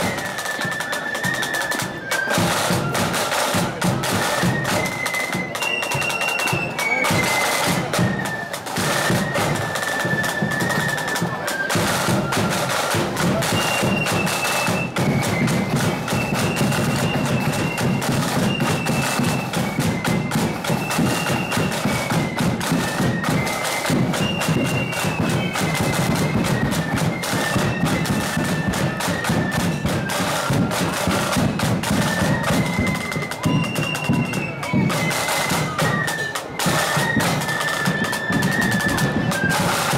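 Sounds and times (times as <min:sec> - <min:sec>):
flutes playing melody: 0:00.0 - 0:39.9
rattling snare drum: 0:00.0 - 0:39.9.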